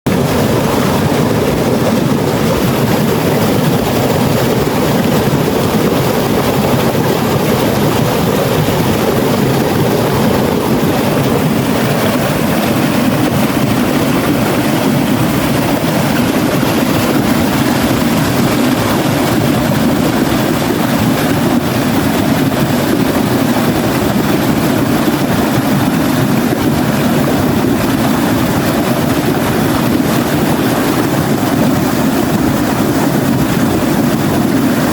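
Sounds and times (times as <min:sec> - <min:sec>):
stream of water rushing: 0:00.1 - 0:34.9.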